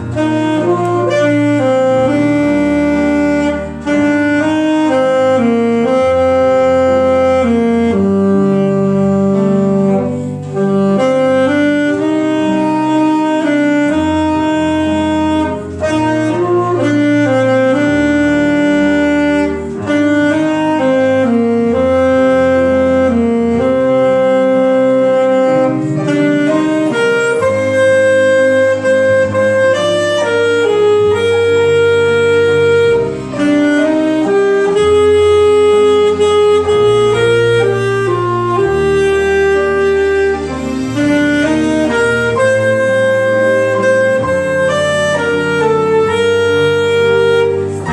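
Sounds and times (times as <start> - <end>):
accompaniment with bass line: 0.0 - 47.9
saxophone melody: 0.0 - 47.9.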